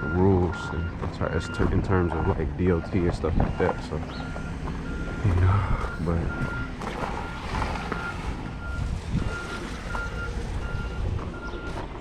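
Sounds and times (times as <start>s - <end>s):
diesel truck engine idling: 0.0s - 12.0s
truck backup alarm beeping: 0.0s - 12.0s.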